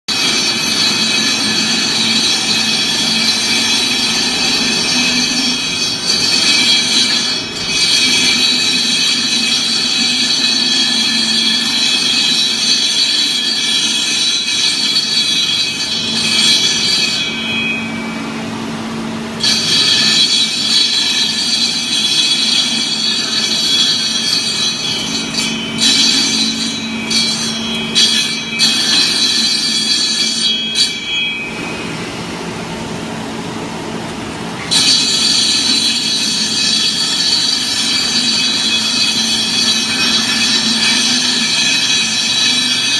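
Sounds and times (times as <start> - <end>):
grinder screeching on concrete: 0.1 - 18.3, 19.4 - 31.6, 34.6 - 42.9.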